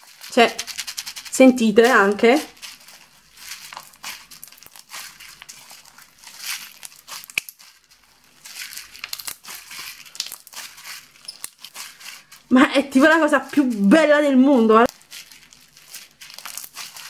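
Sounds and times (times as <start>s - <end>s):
slime crackling and popping: 0.0s - 14.2s, 14.8s - 17.0s.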